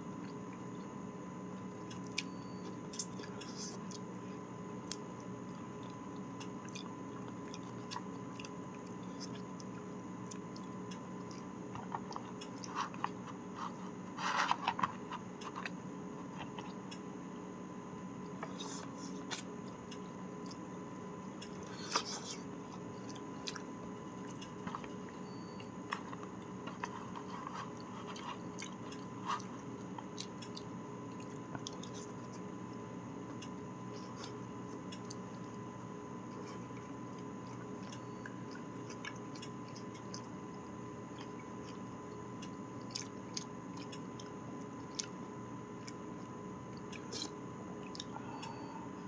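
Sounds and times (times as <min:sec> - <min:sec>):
person chewing food: 0:00.0 - 0:17.1, 0:18.1 - 0:49.0.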